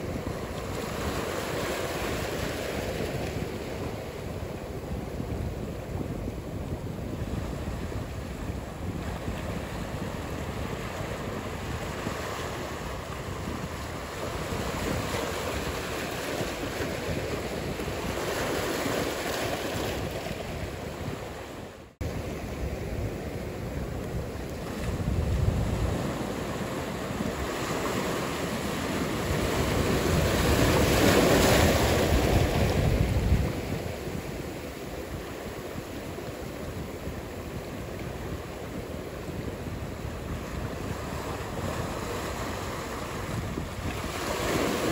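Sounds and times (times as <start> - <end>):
ocean surf washing: 0.0 - 44.9.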